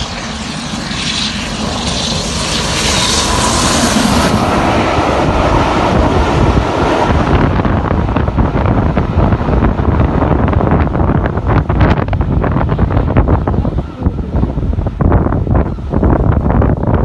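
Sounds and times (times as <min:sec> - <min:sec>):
train rushing past: 0:00.0 - 0:17.0
wind buffeting microphone: 0:00.0 - 0:17.0.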